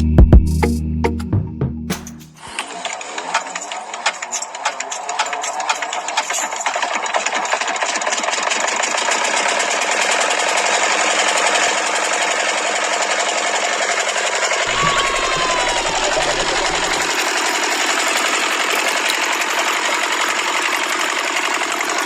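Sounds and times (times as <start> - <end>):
small model engine rattling: 2.4 - 22.0.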